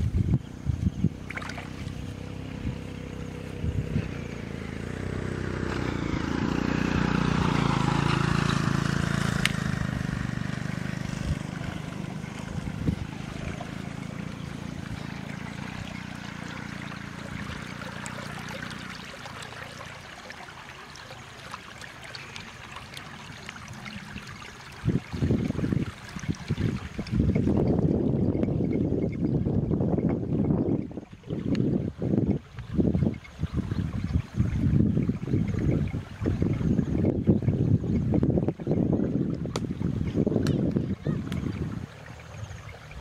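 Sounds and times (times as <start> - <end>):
low droning hum: 0.0 - 43.0
water trickling in ditch: 0.0 - 43.0.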